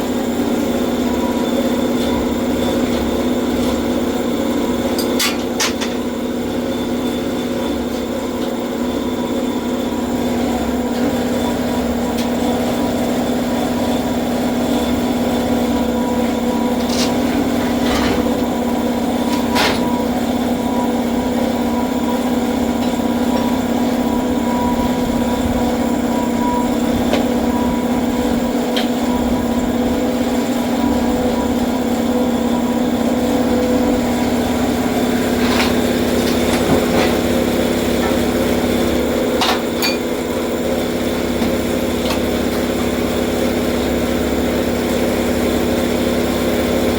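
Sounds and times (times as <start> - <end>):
vehicle engine running steadily: 0.0 - 46.9.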